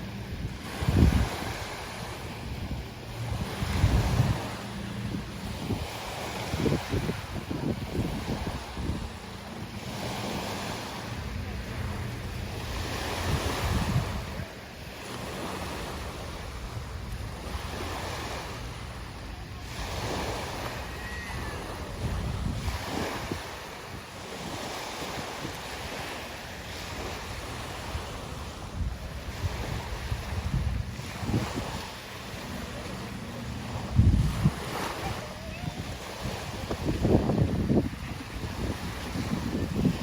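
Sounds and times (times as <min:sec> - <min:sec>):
small waves washing onto shore: 0:00.0 - 0:40.0
wind buffeting microphone: 0:00.0 - 0:40.0.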